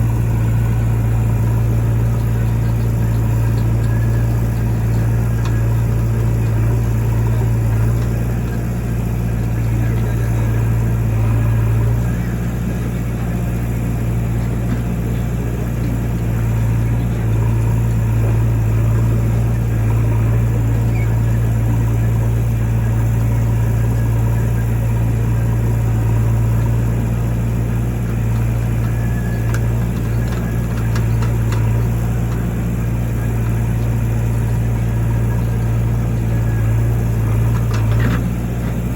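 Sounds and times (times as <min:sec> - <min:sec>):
diesel engine running at low revs: 0:00.0 - 0:38.9.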